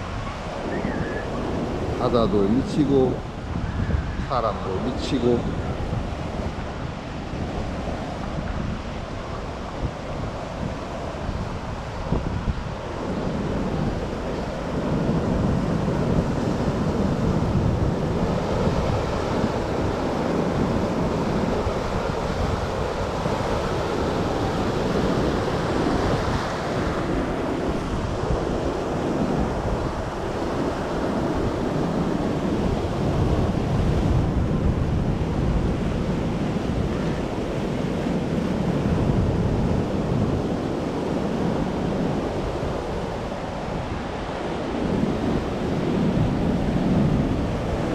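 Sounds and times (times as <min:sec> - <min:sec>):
heavy surf crashing: 0:00.0 - 0:47.9
wind buffeting microphone: 0:00.0 - 0:47.9.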